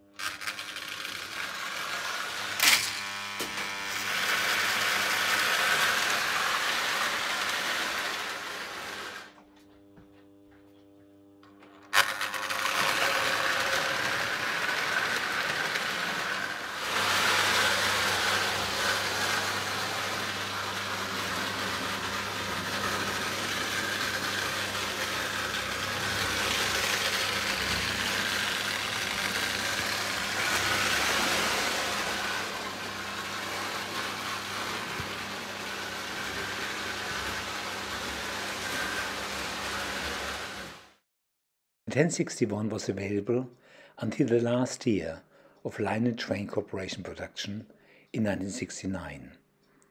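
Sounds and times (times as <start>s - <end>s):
electric motor hum: 0.0s - 41.0s.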